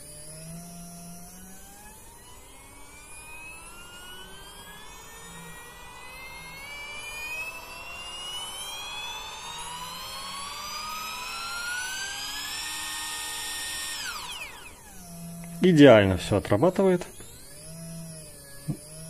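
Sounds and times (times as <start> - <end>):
stepper motor whine rising: 0.0 - 19.0.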